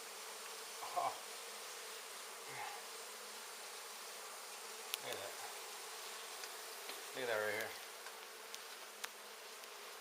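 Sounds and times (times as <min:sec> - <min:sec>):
bees humming in hive: 0:00.0 - 0:10.0.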